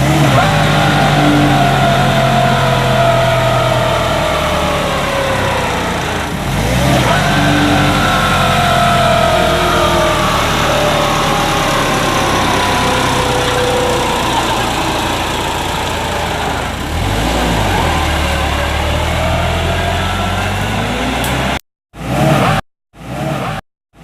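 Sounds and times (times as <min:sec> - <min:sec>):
tractor engine running hard: 0:00.0 - 0:21.6.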